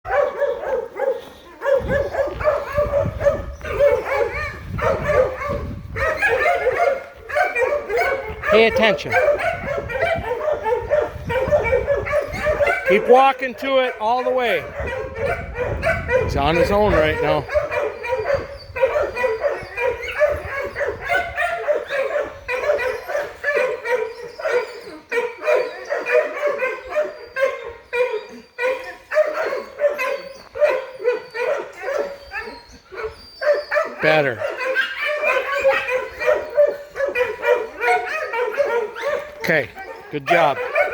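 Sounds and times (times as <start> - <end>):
dog yipping and barking: 0.1 - 13.2, 14.0 - 40.9.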